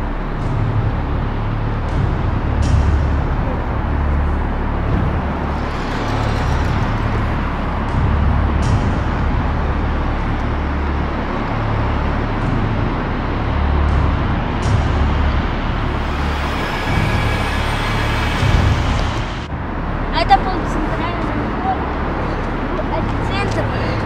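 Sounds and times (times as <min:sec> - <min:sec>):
car engine rumble: 0:00.0 - 0:24.0
road and tyre noise: 0:00.0 - 0:24.0.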